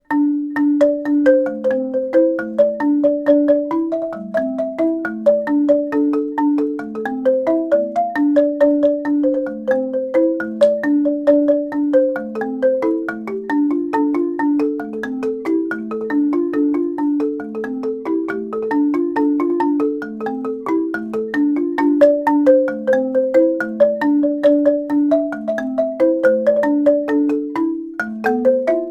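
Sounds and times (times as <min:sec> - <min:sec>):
marimba played with mallets: 0:00.0 - 0:28.9.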